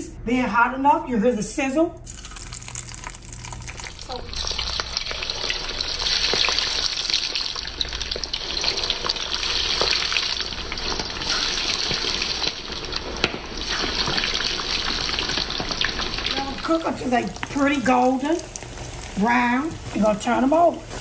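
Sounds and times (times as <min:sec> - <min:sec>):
oil crackling: 0:02.0 - 0:21.0
patties frying in hot oil: 0:02.0 - 0:21.0.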